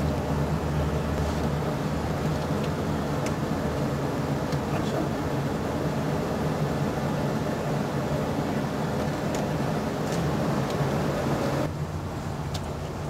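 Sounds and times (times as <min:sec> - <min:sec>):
mechanical hum and hiss: 0:00.0 - 0:13.0.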